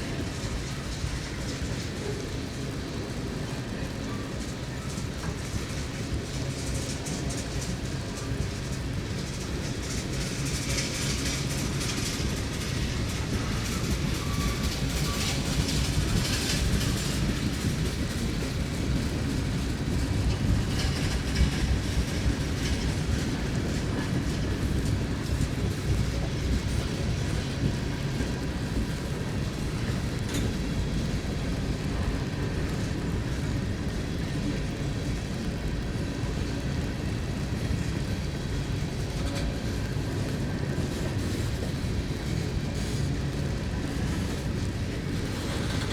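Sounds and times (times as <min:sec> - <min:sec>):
train passing: 0:00.0 - 0:45.9
wheels clicking over rail joints: 0:00.0 - 0:45.9.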